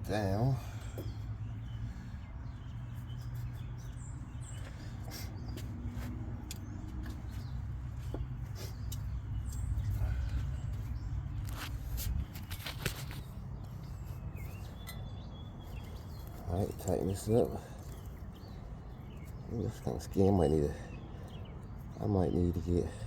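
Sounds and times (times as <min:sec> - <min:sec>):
steady low rumble: 0:00.0 - 0:20.0
birds chirping: 0:00.0 - 0:23.0.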